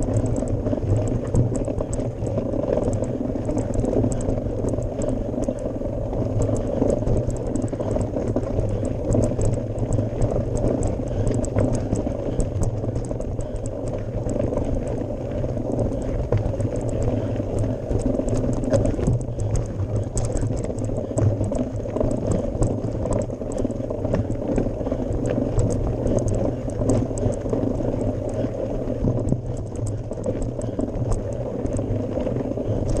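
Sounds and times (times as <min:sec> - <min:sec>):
stones crackling and bike rattling: 0:00.0 - 0:33.0
tyres rumbling on gravel: 0:00.0 - 0:33.0.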